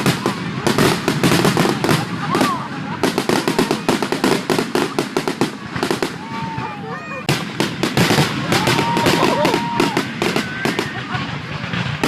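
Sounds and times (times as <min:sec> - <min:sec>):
fireworks popping and banging: 0:00.0 - 0:12.0.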